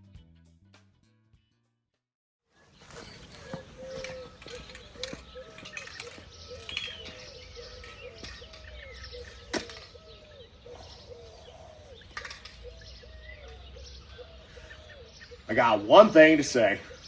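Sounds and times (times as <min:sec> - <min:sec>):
bird calling in low notes: 0:03.1 - 0:17.0.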